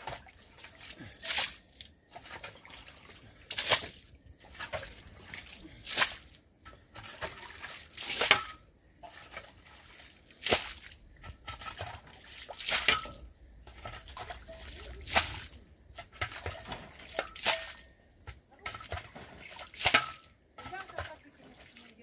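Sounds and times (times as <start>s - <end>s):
shovel scraping water across stone: 0.0s - 22.0s
water sloshing and dripping: 0.0s - 22.0s.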